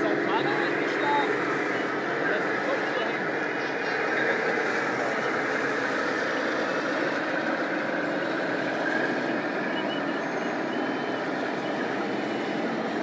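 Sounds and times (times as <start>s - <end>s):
busy exhibition hall din: 0.0s - 13.0s.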